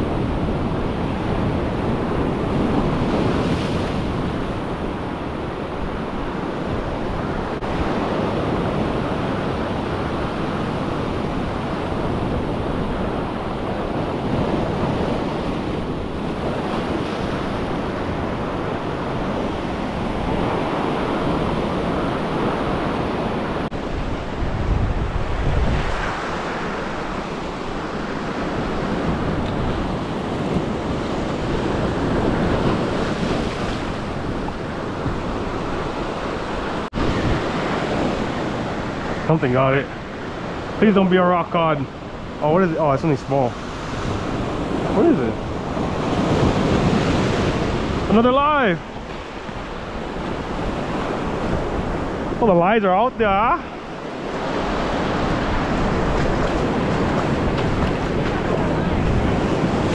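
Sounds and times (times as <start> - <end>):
wind buffeting microphone: 0.0 - 59.9
waves breaking on rocks: 0.6 - 59.9.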